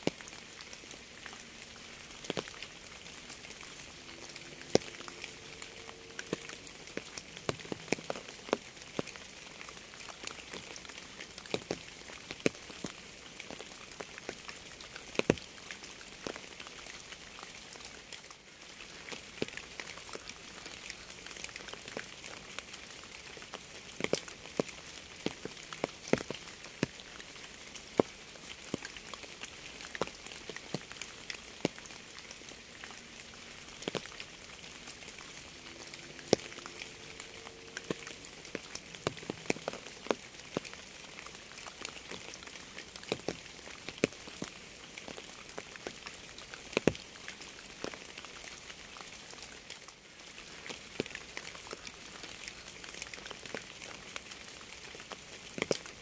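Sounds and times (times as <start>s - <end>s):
raindrops striking close by: 0.0s - 56.0s
steady rain: 0.0s - 56.0s.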